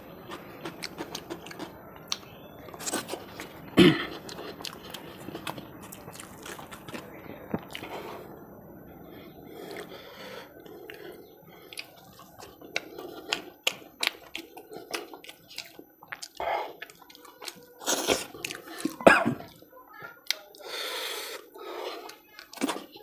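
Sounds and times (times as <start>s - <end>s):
close chewing and mouth clicks: 0.0s - 8.3s, 9.6s - 19.6s, 20.2s - 23.0s.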